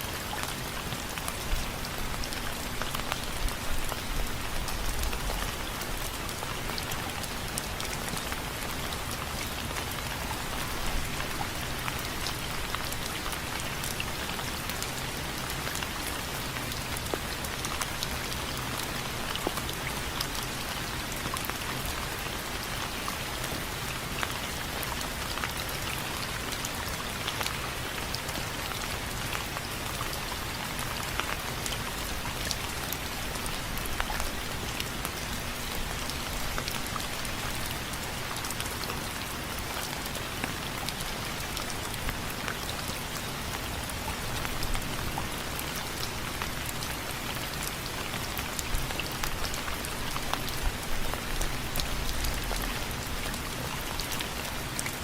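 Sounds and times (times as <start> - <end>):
rain pattering on window frames: 0.1 - 55.0.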